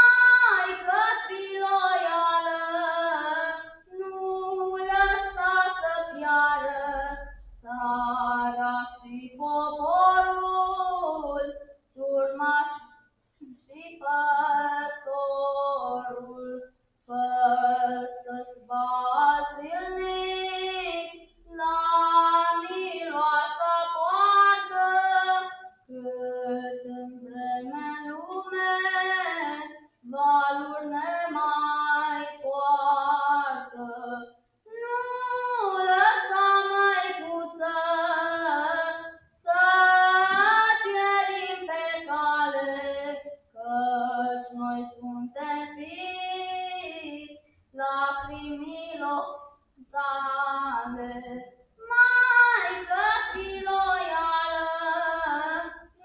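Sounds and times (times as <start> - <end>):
girl singing unaccompanied: 0.0 - 56.0.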